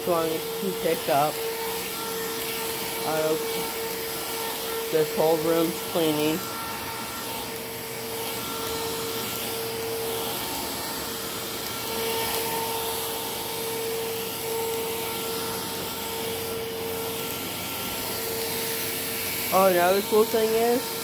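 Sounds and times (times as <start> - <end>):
vacuum motor whine: 0.0 - 21.0.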